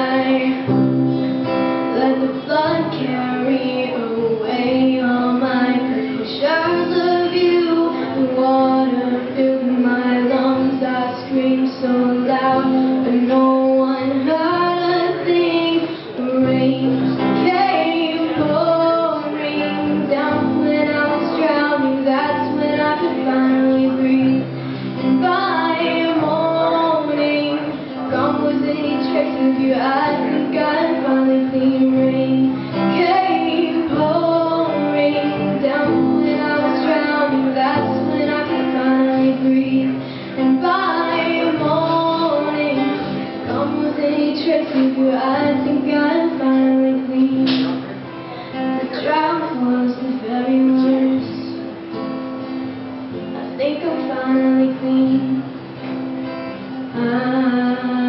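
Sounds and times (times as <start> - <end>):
girl singing: 0.0 - 51.7, 53.2 - 58.0
acoustic guitar strumming: 0.0 - 58.0.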